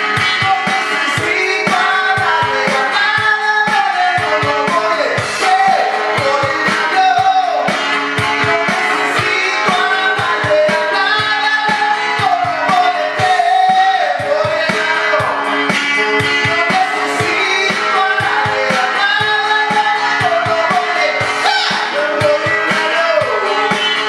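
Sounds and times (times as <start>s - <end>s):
person singing: 0.0s - 15.6s, 16.3s - 24.0s
instrumental accompaniment with beat: 0.0s - 24.0s.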